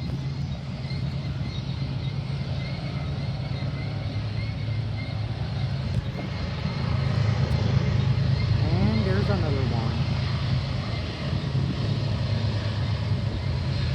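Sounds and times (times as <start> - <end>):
diesel locomotive engine droning: 0.0 - 13.9.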